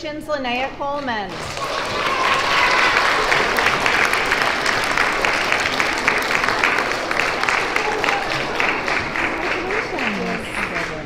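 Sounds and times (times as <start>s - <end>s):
children applauding: 1.3s - 11.0s.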